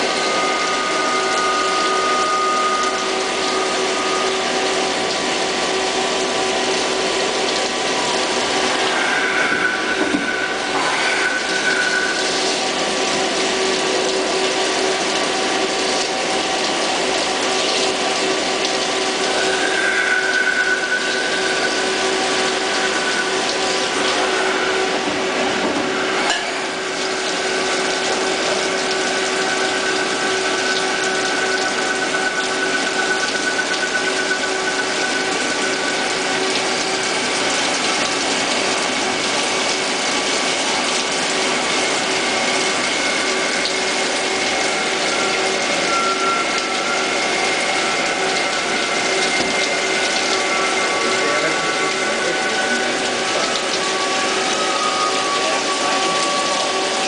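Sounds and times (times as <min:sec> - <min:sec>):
lathe mechanical whine: 0:00.0 - 0:57.0.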